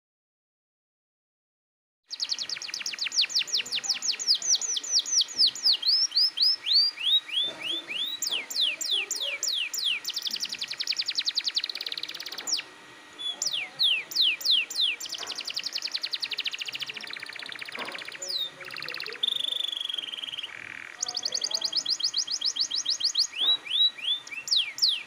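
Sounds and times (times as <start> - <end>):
canary singing: 2.1 - 25.0.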